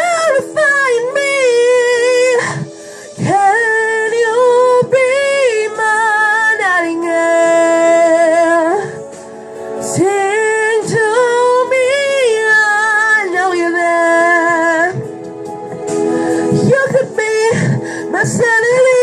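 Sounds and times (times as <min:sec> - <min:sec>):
backing music: 0:00.0 - 0:19.0.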